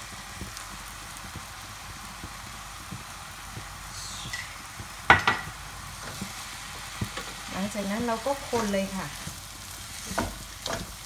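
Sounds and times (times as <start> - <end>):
rice sizzling in frying pan: 0.0 - 11.0.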